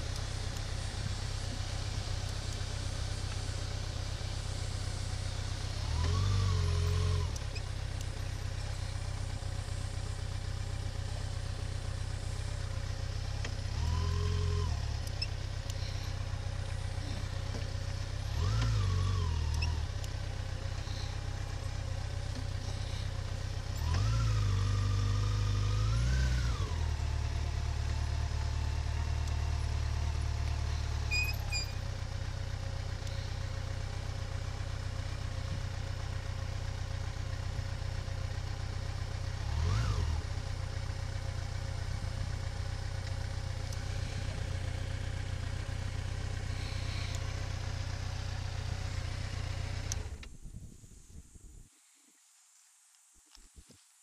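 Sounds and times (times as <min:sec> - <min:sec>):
vehicle engine revving: 0:00.0 - 0:31.8, 0:32.4 - 0:35.6, 0:38.4 - 0:50.3.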